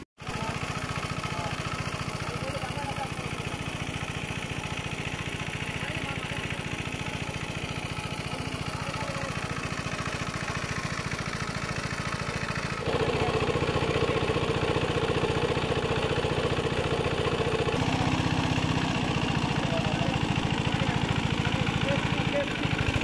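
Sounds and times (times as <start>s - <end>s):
engine-driven water pump running: 0.2s - 23.0s.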